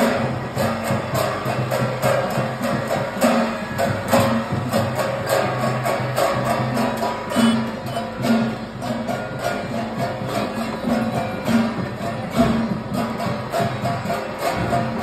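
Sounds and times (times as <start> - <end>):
jingling percussion: 0.0 - 15.0
procession drumming: 0.0 - 15.0.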